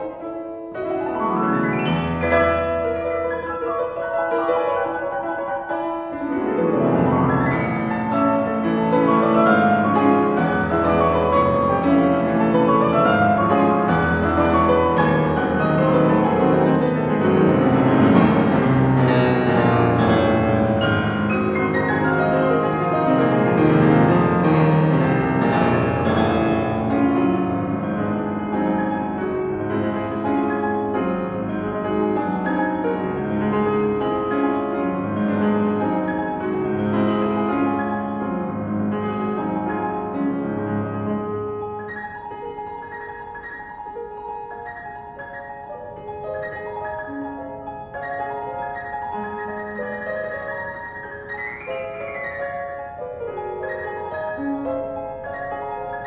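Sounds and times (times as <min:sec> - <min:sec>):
fast virtuosic piano: 0:00.0 - 0:56.0.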